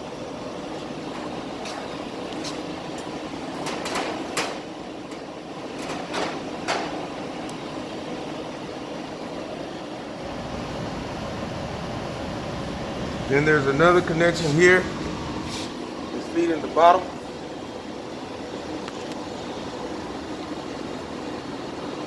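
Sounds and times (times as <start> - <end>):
fan whirring hum: 0.0 - 22.0.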